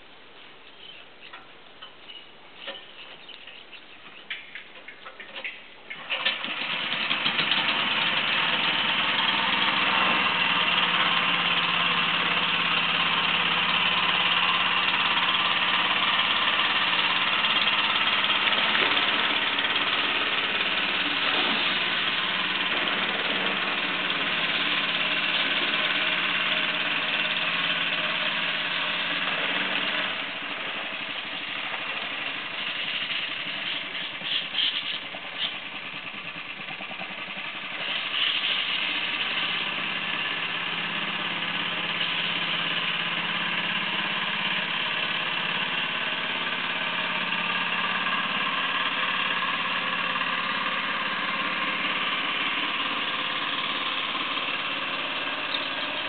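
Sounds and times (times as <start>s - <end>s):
boat outboard motor running: 6.2s - 56.0s.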